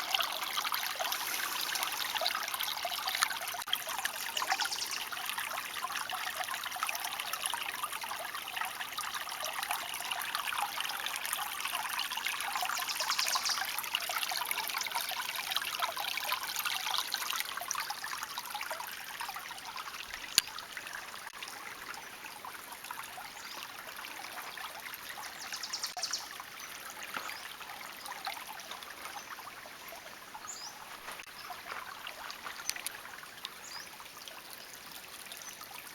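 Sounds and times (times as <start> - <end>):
creek water babbling: 0.0 - 35.9.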